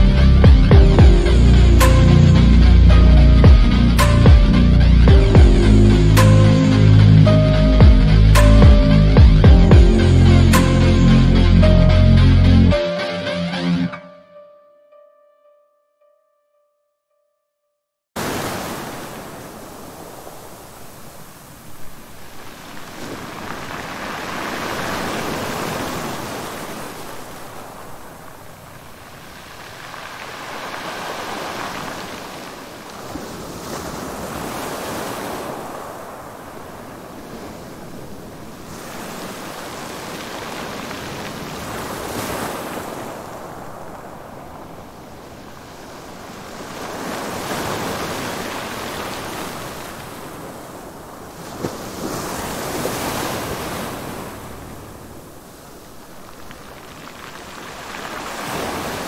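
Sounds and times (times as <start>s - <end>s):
waves washing in: 0.0s - 13.0s, 18.2s - 59.0s.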